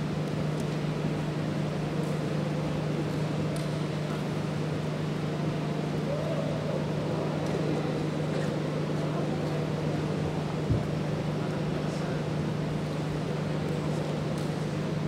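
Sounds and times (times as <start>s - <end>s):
indoor sports hall hum: 0.0s - 15.0s.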